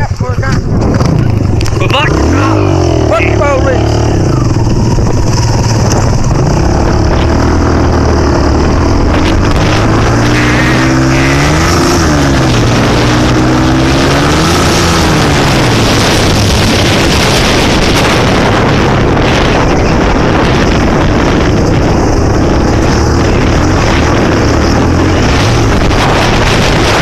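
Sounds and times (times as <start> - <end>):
wind noise on microphone: 0.0 - 27.0
dirt bike engine revving: 0.8 - 27.0.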